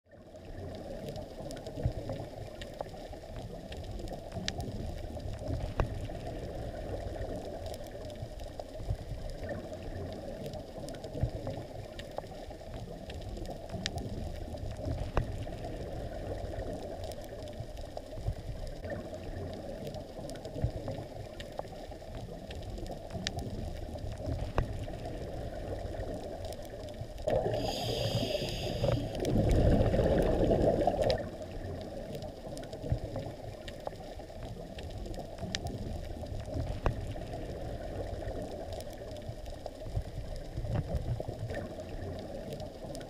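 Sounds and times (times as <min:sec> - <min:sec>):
muffled underwater rushing: 0:00.1 - 0:43.0.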